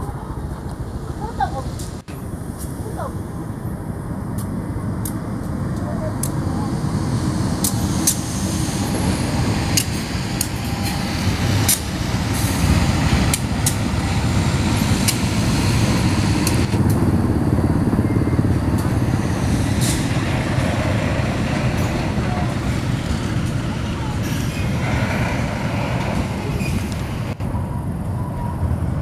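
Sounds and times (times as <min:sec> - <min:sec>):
diesel locomotive low rumble: 0:00.0 - 0:29.0.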